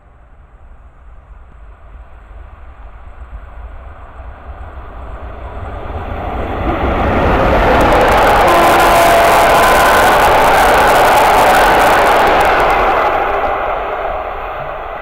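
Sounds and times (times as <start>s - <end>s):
passenger train approaching: 0.0s - 15.0s.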